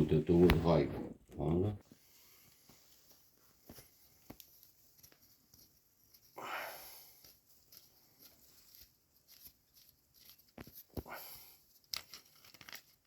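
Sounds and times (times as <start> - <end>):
rustling: 0.3 - 13.0.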